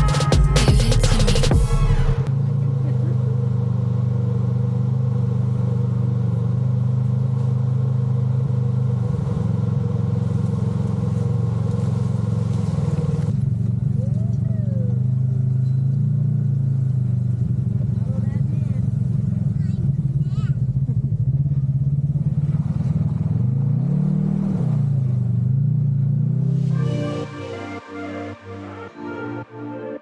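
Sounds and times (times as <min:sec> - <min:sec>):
utility vehicle engine drone: 0:00.0 - 0:18.2, 0:20.6 - 0:30.0.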